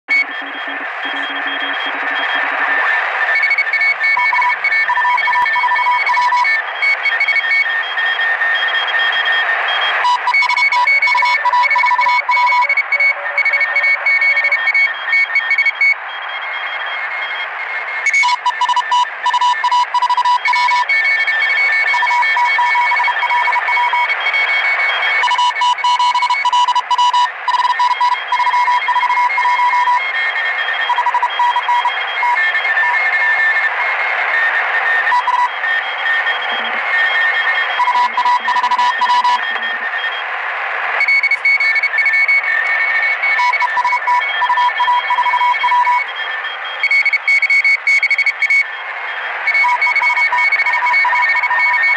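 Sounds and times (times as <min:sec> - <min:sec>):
radio band noise hiss: 0:00.1 - 0:51.9
radio beeps: 0:00.1 - 0:51.9.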